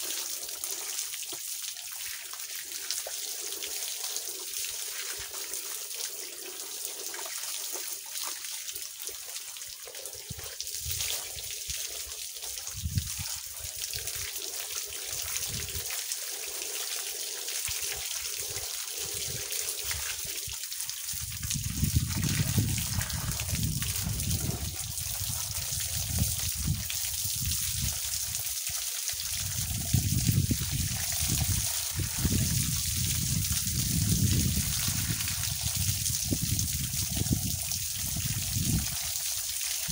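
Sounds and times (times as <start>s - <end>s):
water pouring from hose: 0.0s - 39.9s
water splashing on a body: 0.0s - 39.9s.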